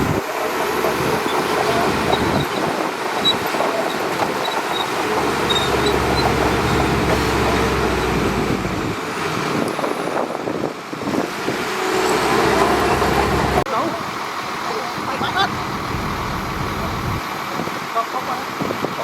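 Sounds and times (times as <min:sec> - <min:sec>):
bulldozer diesel engine running: 0:00.0 - 0:17.6.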